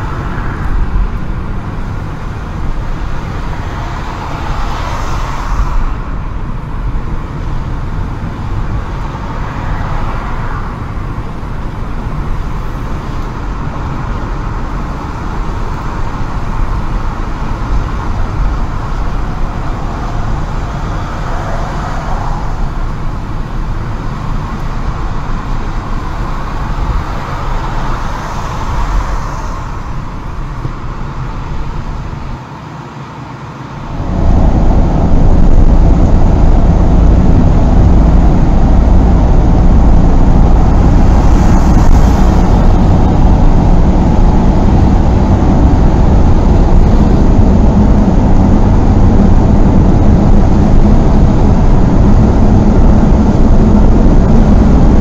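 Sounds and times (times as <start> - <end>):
car road and engine noise: 0.0 - 55.0
passing traffic: 0.0 - 55.0.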